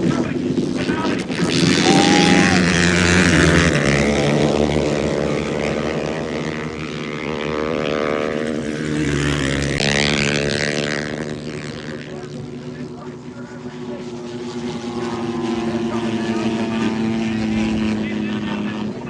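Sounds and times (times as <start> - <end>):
racing motorcycles revving: 0.0 - 19.0.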